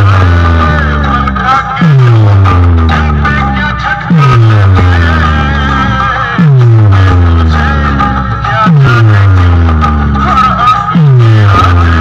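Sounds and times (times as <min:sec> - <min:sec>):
dance music with deep bass: 0:00.0 - 0:12.0.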